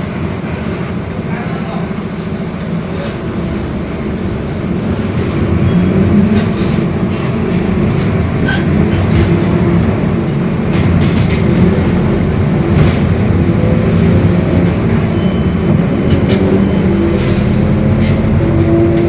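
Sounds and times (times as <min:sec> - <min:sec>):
bus drone: 0:00.0 - 0:19.0.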